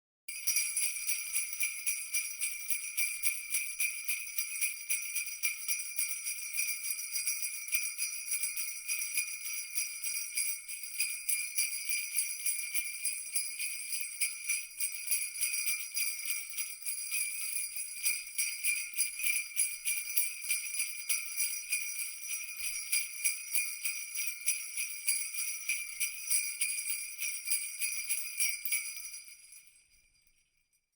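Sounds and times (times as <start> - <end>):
sleigh bells jingling: 0.3 - 30.4.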